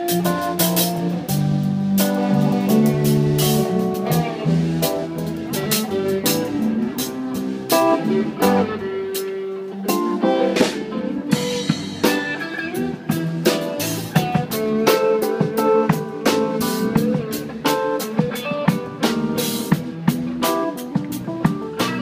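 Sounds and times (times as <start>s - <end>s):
drum kit and cymbals: 0.0s - 22.0s
electric guitar playing: 0.0s - 22.0s
keyboards: 0.0s - 22.0s.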